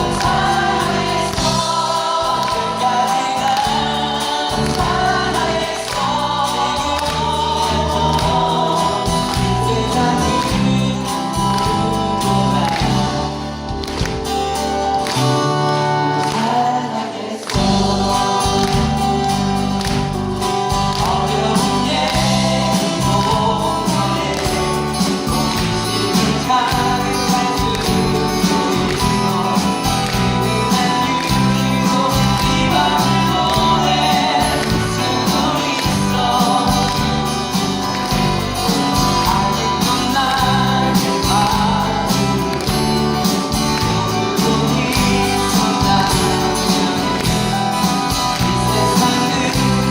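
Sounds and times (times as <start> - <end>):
voices singing together: 0.0 - 14.4, 15.0 - 49.9
live band playing: 0.0 - 49.9.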